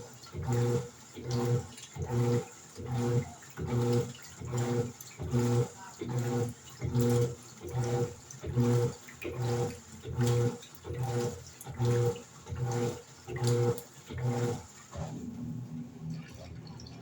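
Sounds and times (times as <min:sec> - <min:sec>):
washing machine motor humming in pulses: 0:00.0 - 0:17.0
water sloshing in tub: 0:00.0 - 0:17.0.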